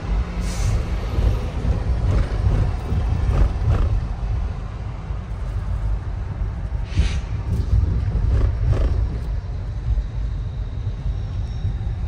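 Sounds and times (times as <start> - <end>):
car driving rumble: 0.0 - 11.1.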